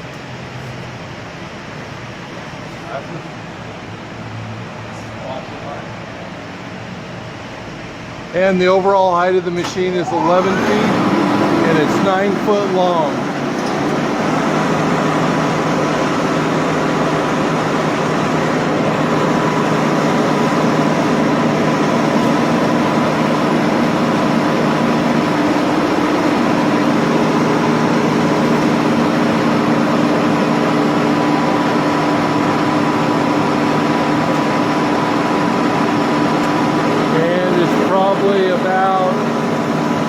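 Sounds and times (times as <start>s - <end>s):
lathe machine hum: 0.0s - 40.0s.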